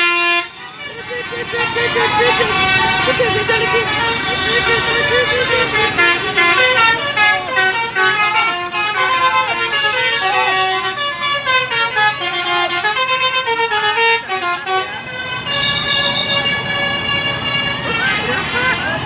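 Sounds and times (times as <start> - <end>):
musical bus horn playing a tune: 0.0 - 19.0.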